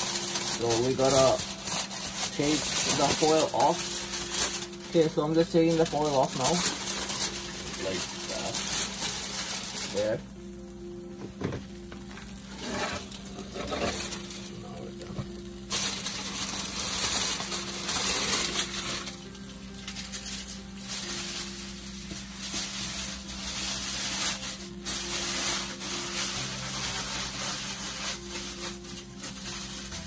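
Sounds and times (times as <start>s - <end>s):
juices sizzling in a baking dish: 0.0s - 30.0s.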